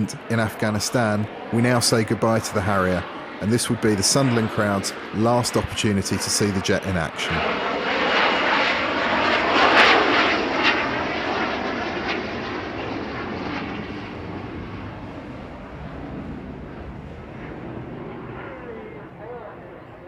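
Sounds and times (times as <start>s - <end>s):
jet engine passing: 0.0s - 20.0s.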